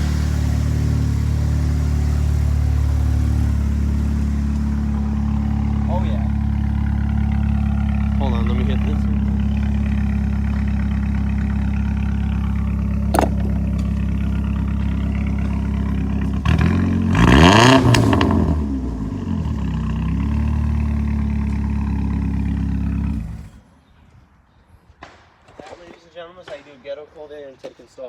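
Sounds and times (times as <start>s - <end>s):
car engine idling and revving: 0.0s - 23.6s.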